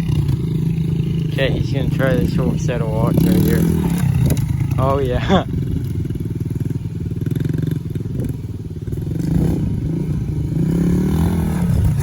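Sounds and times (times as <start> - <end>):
pit bike engine revving: 0.0 - 12.0.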